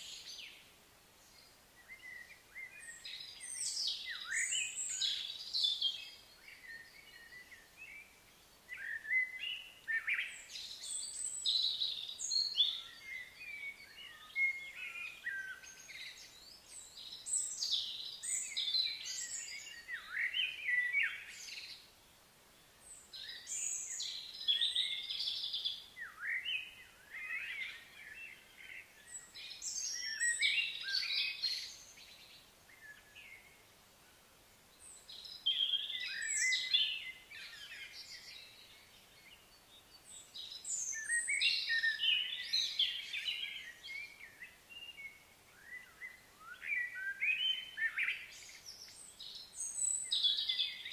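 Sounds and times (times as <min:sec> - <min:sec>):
songbird chirps and whistles: 0:00.0 - 0:21.9, 0:22.8 - 0:34.2, 0:34.8 - 0:50.9.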